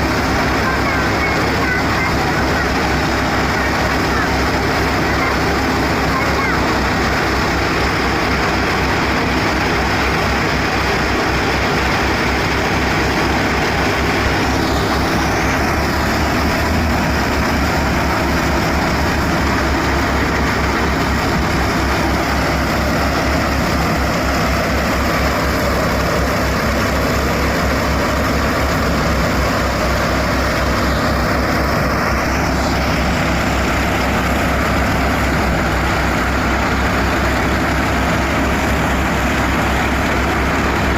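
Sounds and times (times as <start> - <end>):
thresher rushing: 0.0 - 40.9
tractor diesel engine humming: 0.0 - 40.9.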